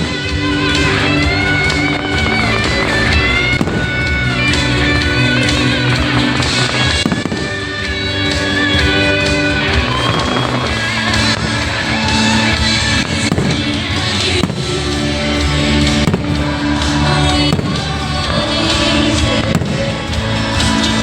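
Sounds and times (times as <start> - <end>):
fireworks bangs: 0.0 - 21.0
music over loudspeakers: 0.0 - 21.0.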